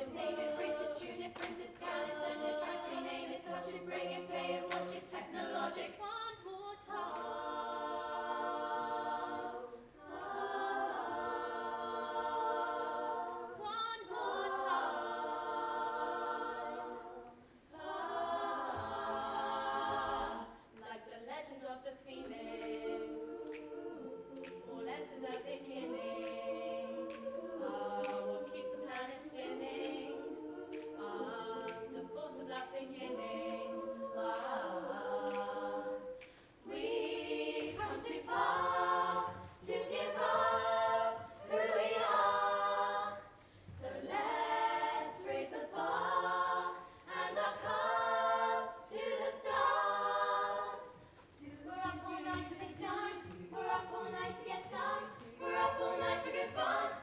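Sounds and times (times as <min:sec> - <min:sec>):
vocal percussion ticks: 0:00.0 - 0:18.0, 0:22.2 - 0:57.0
women singing a cappella: 0:00.0 - 0:57.0.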